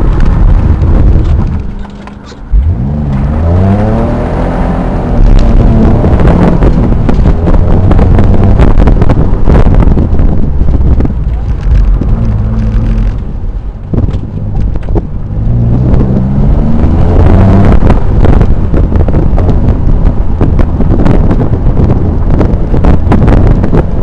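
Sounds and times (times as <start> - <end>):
car engine accelerating: 0.0 - 24.0
wind buffeting microphone: 0.0 - 24.0.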